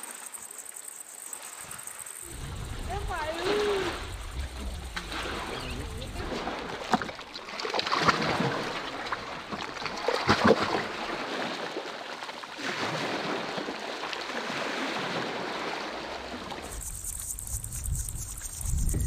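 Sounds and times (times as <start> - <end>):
small waves on stony beach: 0.0 - 17.2
water splashes: 0.0 - 19.0
water lapping against rocks: 2.2 - 19.0.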